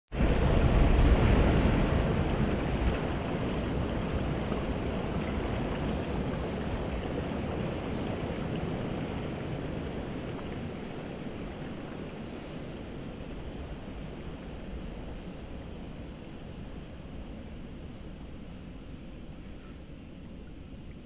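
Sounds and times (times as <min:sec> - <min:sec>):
surf: 0:00.1 - 0:21.0
wind: 0:00.1 - 0:21.0.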